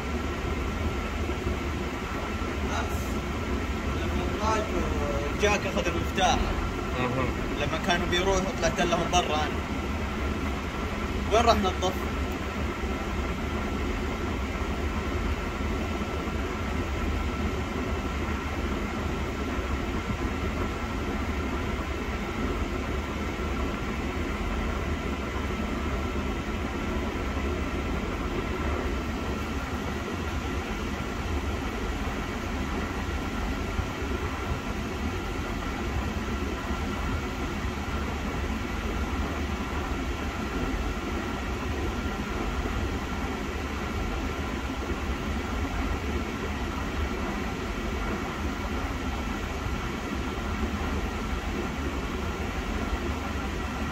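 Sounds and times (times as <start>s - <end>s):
air conditioning blower: 0.0s - 53.9s
car engine idling hum: 0.0s - 53.9s.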